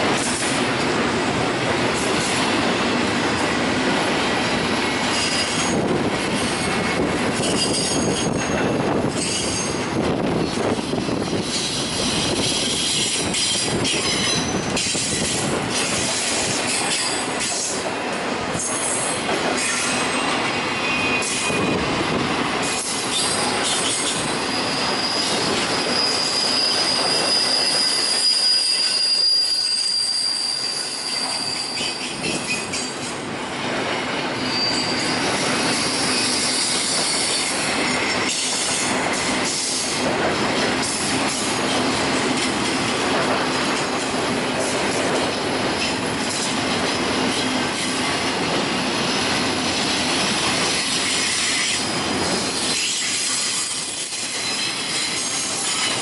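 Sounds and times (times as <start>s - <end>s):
train wheels rumbling on rail: 0.0s - 56.0s
high-pitched train squeal: 4.5s - 17.8s, 18.5s - 33.2s, 33.9s - 40.0s, 43.4s - 56.0s.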